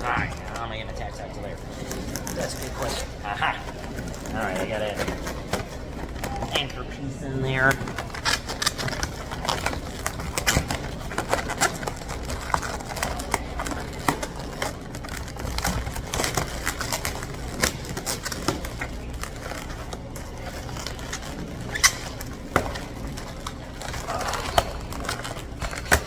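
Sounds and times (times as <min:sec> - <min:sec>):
balloons squeaking and rubbing: 0:00.0 - 0:26.0.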